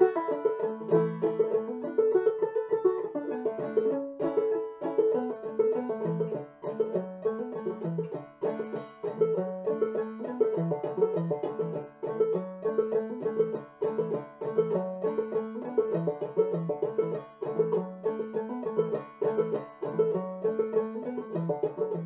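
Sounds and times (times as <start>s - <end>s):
solo banjo tune: 0.0s - 22.0s.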